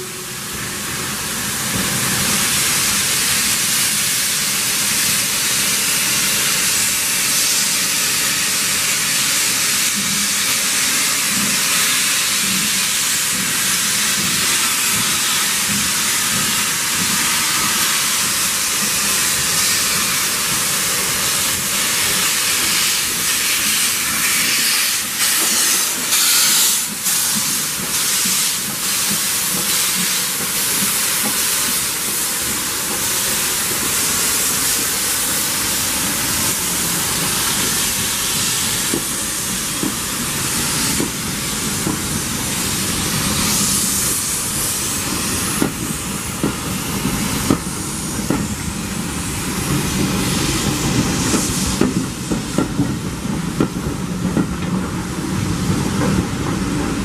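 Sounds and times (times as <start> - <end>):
steam locomotive hissing: 0.0 - 57.0
sharp locomotive exhaust pulses: 3.5 - 57.0.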